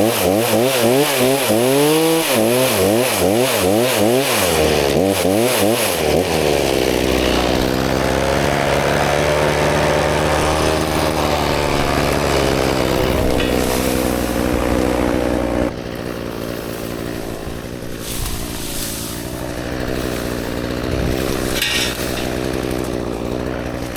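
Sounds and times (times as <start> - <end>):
chainsaw engine running: 0.0 - 23.9.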